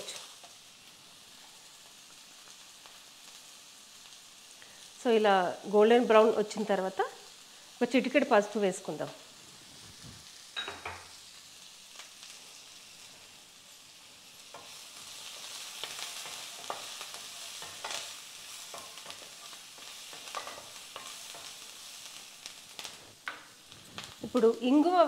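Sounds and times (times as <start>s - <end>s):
onions sizzling in oil: 0.0s - 25.0s.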